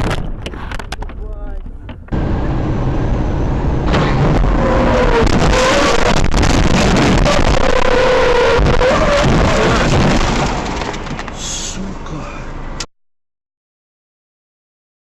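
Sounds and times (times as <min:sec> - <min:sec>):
car engine whining: 0:00.0 - 0:12.9
heavy steady rush: 0:00.2 - 0:12.9.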